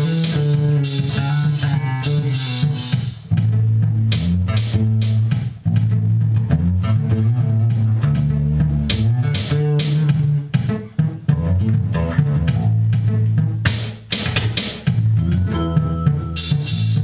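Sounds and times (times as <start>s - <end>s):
electric bass guitar line: 0.0s - 17.0s.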